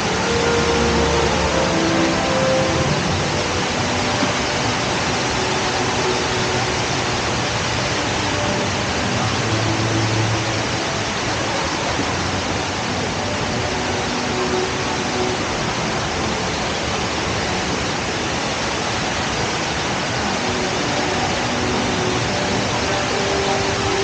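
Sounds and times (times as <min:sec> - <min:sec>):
indoor waterfall rushing: 0:00.0 - 0:24.0.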